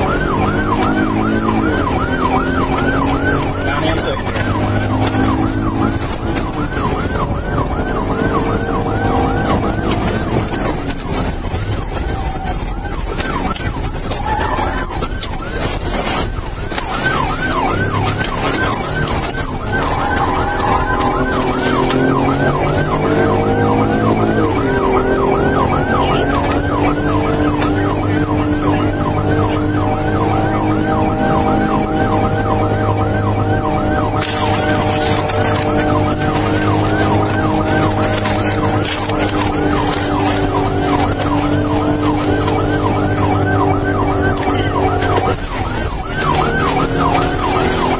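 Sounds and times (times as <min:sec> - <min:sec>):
car engine running: 0:00.0 - 0:47.9
police siren yelping: 0:00.0 - 0:47.9.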